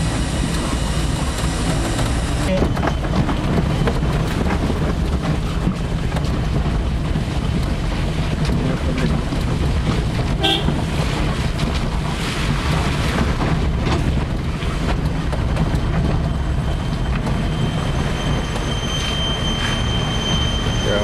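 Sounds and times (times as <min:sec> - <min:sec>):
wind noise on microphone: 0:00.0 - 0:20.7
vehicle rumbling on dirt road: 0:00.0 - 0:21.0.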